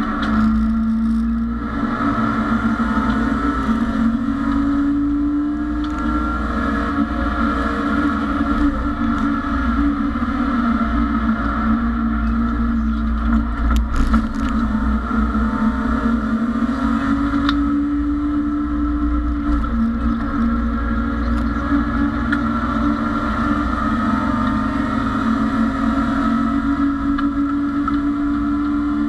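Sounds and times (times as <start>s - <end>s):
race car engine under load: 0.0s - 29.0s
road and wind noise: 0.0s - 29.0s.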